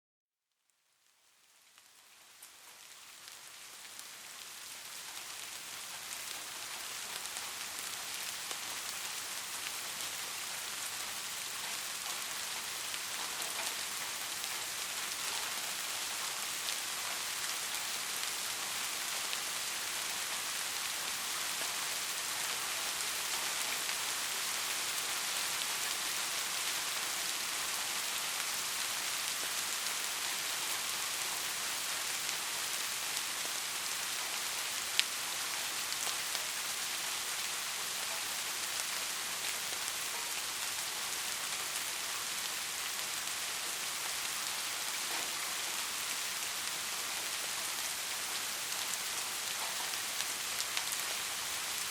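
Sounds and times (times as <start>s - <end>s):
steady rain hiss: 0.6s - 51.9s.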